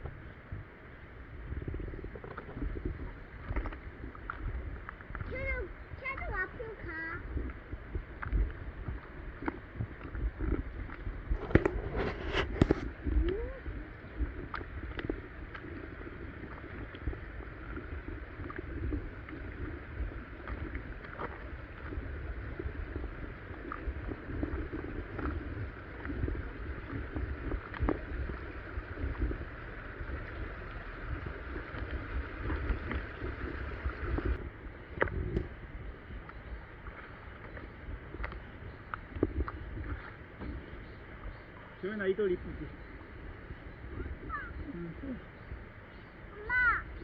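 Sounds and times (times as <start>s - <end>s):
low rumble: 0.0s - 41.5s
stream water sloshing and gurgling: 0.0s - 47.0s.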